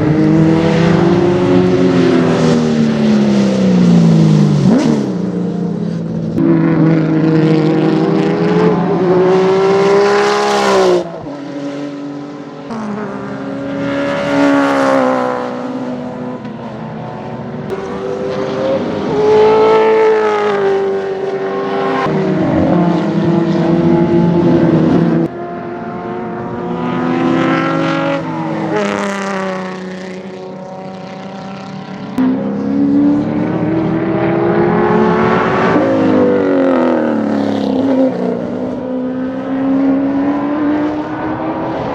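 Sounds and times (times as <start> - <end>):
racing car engines revving: 0.0 - 41.9.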